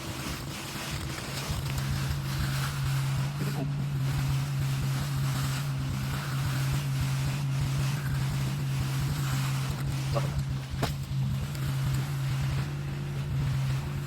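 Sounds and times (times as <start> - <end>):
heavy diesel engine humming: 0.0 - 14.0.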